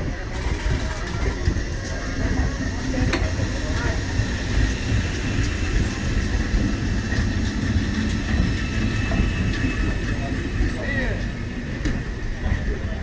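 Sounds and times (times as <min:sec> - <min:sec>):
electric train rumbling on track: 0:00.0 - 0:13.0.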